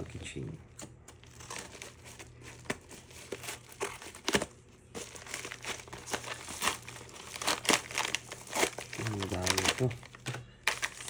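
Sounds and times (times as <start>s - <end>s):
packaging crinkling: 1.1s - 11.0s.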